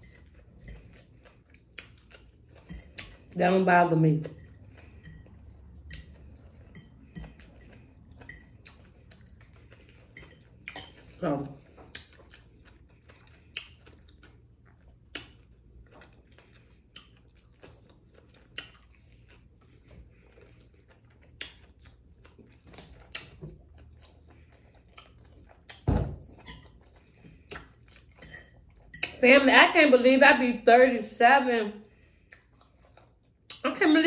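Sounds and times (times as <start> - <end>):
chewing fried fish: 0.0 - 3.4, 4.1 - 29.2, 31.9 - 34.0.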